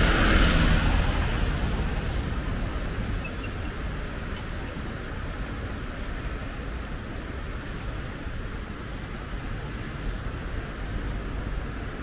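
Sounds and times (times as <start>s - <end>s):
rain hiss: 0.0s - 12.0s
rumble of passing traffic: 0.0s - 12.0s.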